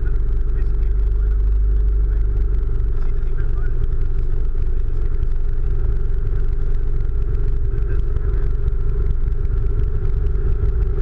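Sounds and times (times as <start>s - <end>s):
propeller engine droning: 0.0s - 11.0s.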